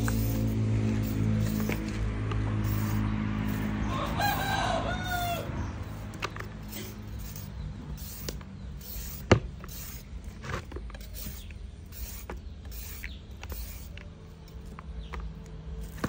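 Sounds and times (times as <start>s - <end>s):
peeler scraping a carrot: 0.0s - 16.0s.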